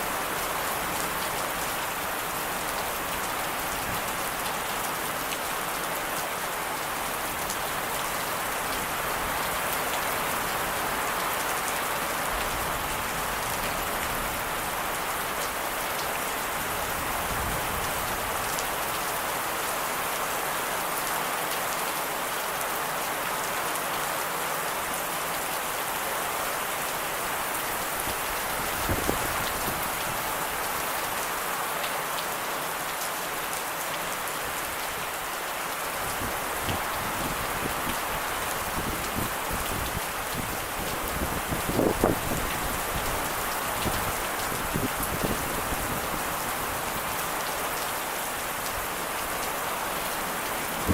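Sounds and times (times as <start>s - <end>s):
steady rain hitting surfaces: 0.0s - 50.9s.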